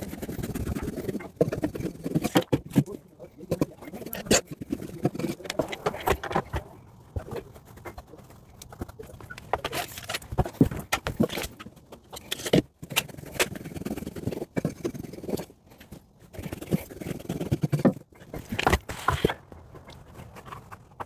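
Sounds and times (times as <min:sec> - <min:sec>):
insulation rustling and scraping: 0:00.0 - 0:21.0.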